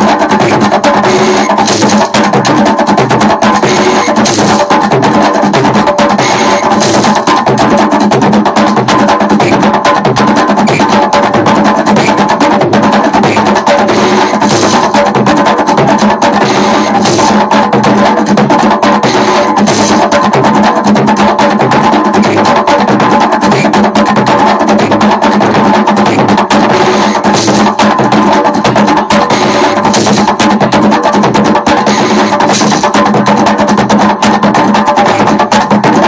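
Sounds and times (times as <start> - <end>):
drums: 0.0 - 36.0
wooden percussion instrument: 0.0 - 36.0.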